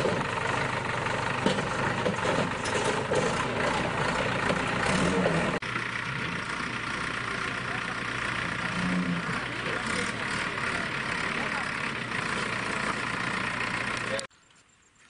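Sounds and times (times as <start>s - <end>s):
diesel engine running: 0.0s - 14.3s.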